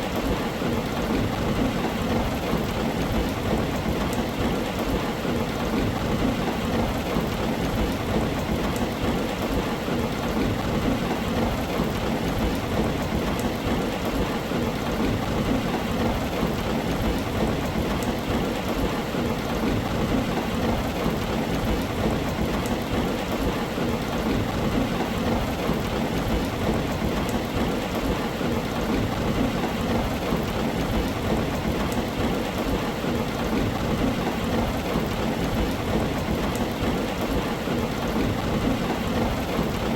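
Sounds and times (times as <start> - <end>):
heavy rain on a tin roof: 0.0 - 39.9
raindrop ticks: 0.0 - 39.9.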